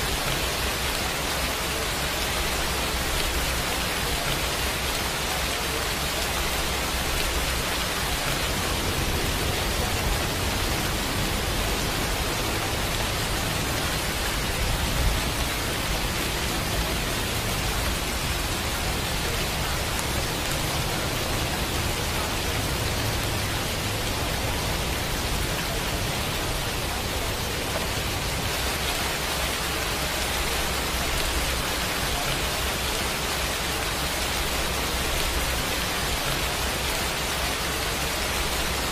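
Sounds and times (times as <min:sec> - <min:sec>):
rain-like hiss: 0:00.0 - 0:38.9.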